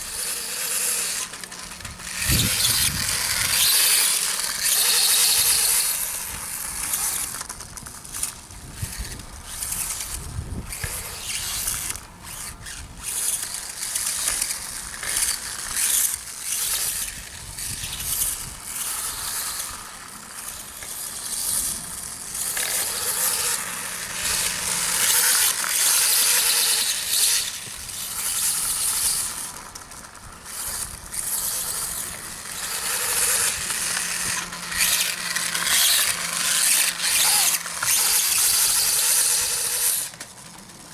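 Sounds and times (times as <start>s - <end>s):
toy dirt bike motor whirring: 0.0s - 40.9s.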